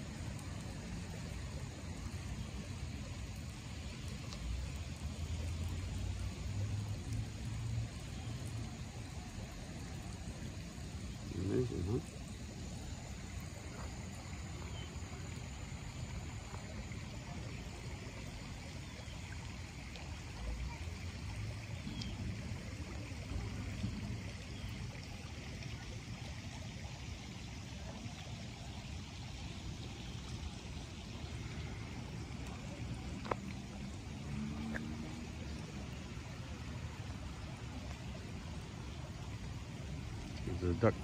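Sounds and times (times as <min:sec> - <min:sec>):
light rain on a pond: 0:00.0 - 0:41.0.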